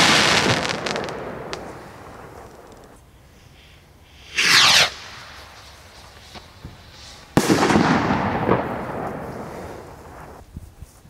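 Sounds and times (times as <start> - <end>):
firework bang: 0.0 - 3.0, 4.3 - 10.4
firework rocket whoosh: 0.0 - 10.4
crackling sparks: 0.0 - 10.6.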